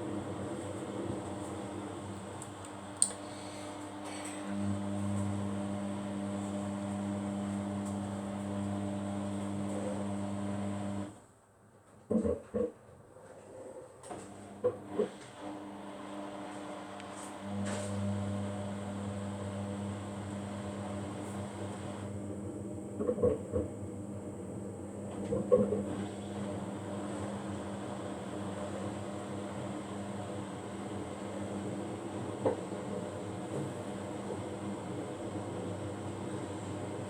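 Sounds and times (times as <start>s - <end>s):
microwave oven humming: 0.0s - 11.2s, 14.1s - 37.0s.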